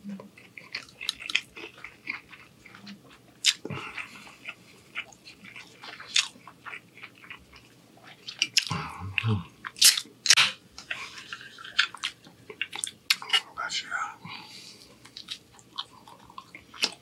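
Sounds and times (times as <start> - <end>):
close chewing with wet mouth clicks: 0.1 - 13.5, 14.8 - 17.0.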